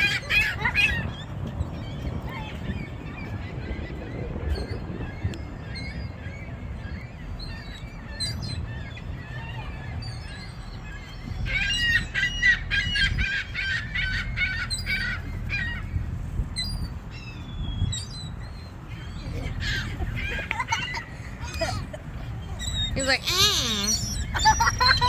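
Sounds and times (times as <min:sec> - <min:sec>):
gulls calling: 0:00.0 - 0:25.0.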